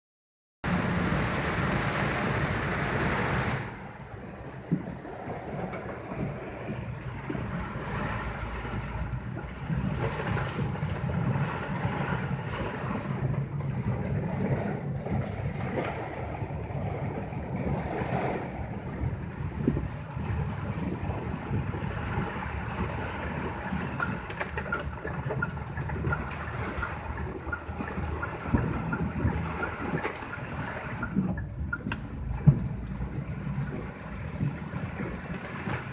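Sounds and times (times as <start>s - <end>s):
rushing water: 0.6s - 35.9s
wind: 0.6s - 35.9s
low rumble on microphone: 0.7s - 35.9s.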